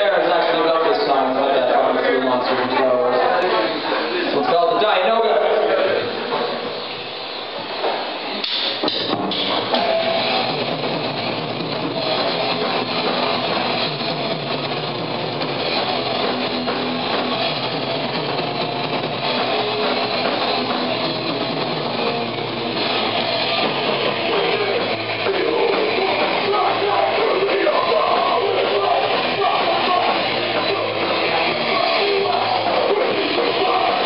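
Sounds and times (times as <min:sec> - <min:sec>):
distorted electric guitars: 0:00.0 - 0:34.0
drums: 0:00.0 - 0:34.0.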